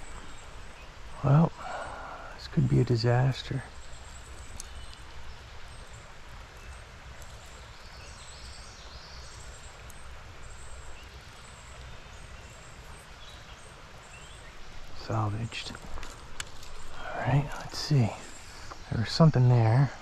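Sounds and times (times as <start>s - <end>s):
stream water: 0.0s - 20.0s.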